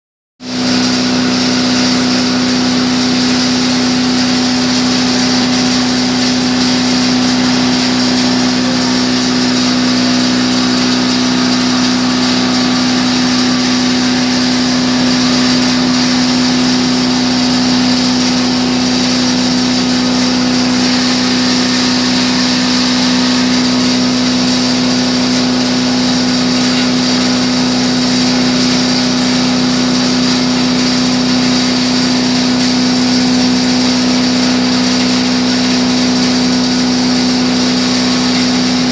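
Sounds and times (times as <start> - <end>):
grinding machine droning: 0.4 - 38.9.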